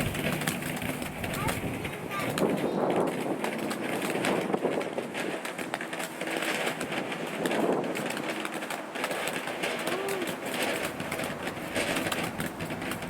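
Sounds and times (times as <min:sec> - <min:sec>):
firework fountain hissing and crackling: 0:00.0 - 0:13.0.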